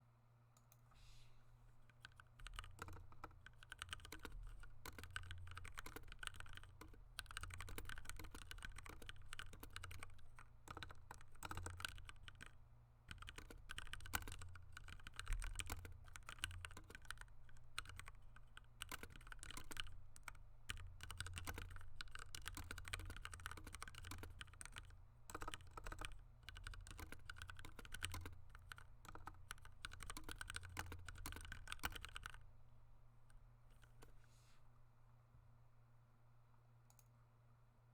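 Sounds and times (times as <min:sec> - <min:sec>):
mechanical keyboard typing: 0:01.8 - 0:32.4.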